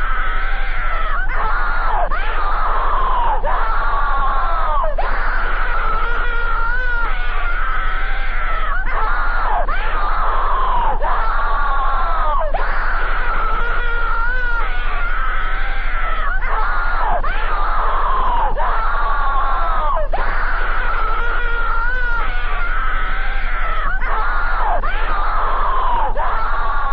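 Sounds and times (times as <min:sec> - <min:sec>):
distorted screaming voices: 0:00.0 - 0:26.9
steady low hum: 0:00.0 - 0:26.9.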